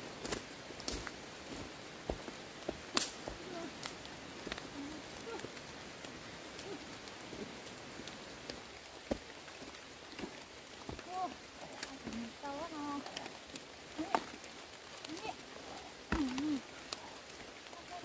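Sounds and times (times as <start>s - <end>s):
twigs snapping: 0.2s - 1.2s, 2.1s - 7.2s, 8.0s - 17.8s.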